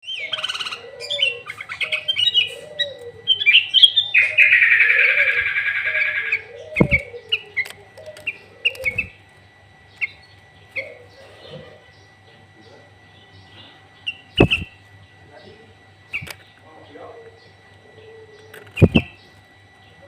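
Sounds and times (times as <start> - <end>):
bird chirping and trilling: 0.0 - 20.0
lower bird warbling: 0.0 - 20.0.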